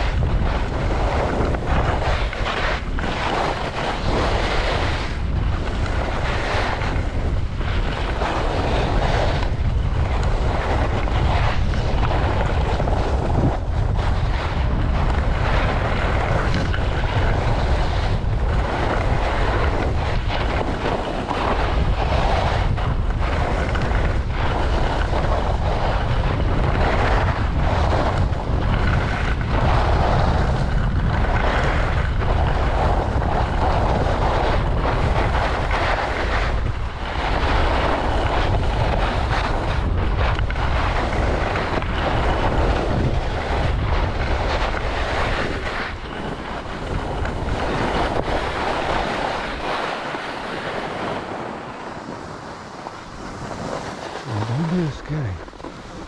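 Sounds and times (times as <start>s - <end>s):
skis scraping on snow: 0.0s - 56.0s
wind buffeting microphone: 0.0s - 56.0s.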